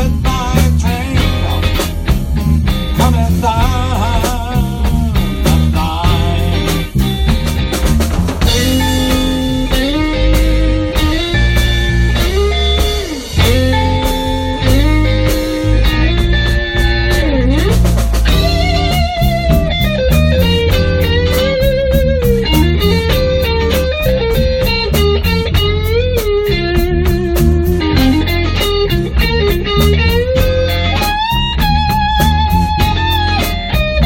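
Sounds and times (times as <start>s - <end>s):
bass and drums steady beat: 0.0s - 34.0s
electric guitar solo: 6.2s - 34.0s.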